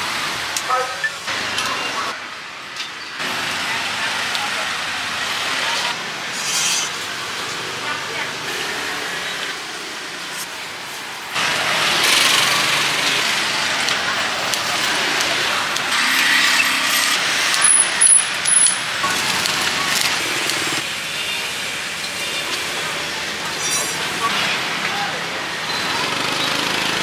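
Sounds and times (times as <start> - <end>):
traffic: 0.0 - 27.0.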